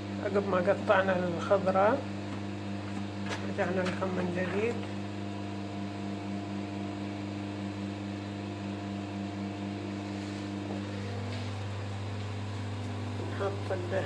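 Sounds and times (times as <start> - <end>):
motor or fan humming: 0.0 - 14.0.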